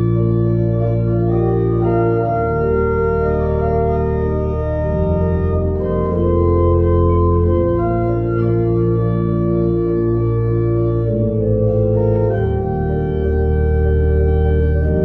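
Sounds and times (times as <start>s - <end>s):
church organ playing chords: 0.0s - 15.0s.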